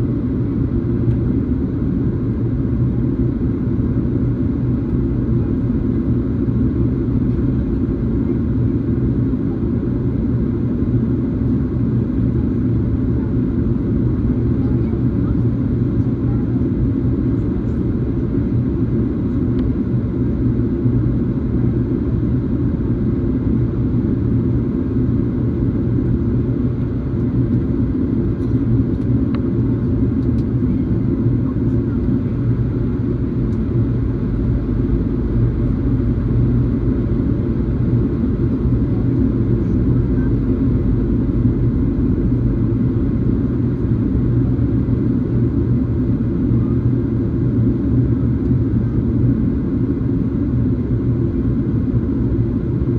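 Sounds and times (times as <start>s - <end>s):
airliner cabin rumble: 0.0s - 52.9s.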